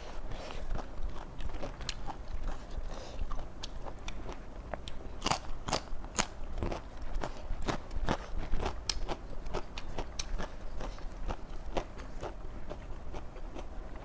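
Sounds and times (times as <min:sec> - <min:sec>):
person chewing crunchy vegetables: 0:00.6 - 0:14.0.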